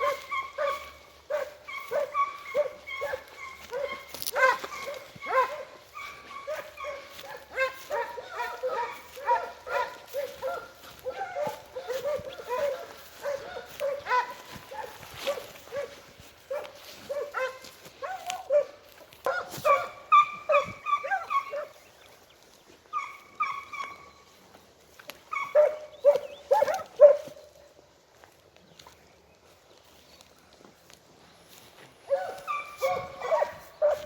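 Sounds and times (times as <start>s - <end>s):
hounds baying: 0.0s - 27.8s, 31.5s - 34.0s.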